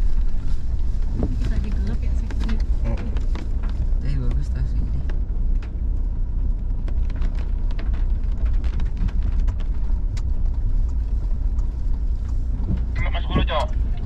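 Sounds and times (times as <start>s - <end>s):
road and engine rumble: 0.0s - 14.0s.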